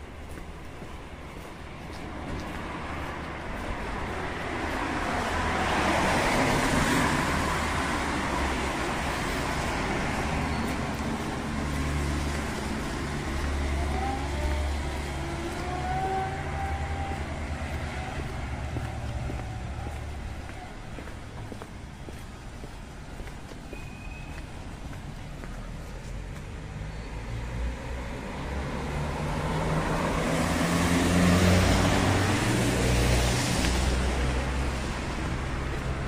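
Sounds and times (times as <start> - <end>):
low traffic engine hum: 0.0 - 36.0.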